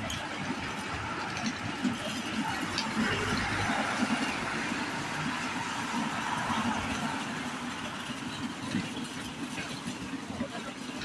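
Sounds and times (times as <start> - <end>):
street traffic: 0.0 - 11.0
trolley wheels rattling on paving: 0.0 - 11.0.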